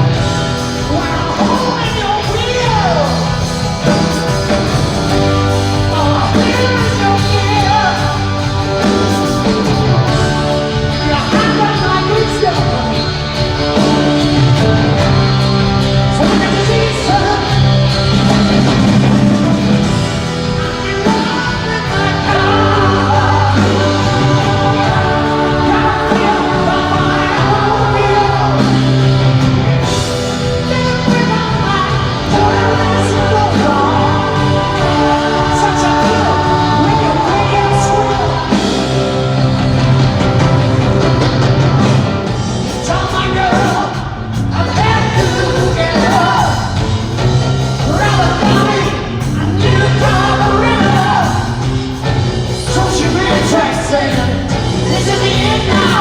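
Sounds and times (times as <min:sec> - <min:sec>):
lead vocal singing: 0:00.0 - 0:56.0
live rock band playing: 0:00.0 - 0:56.0.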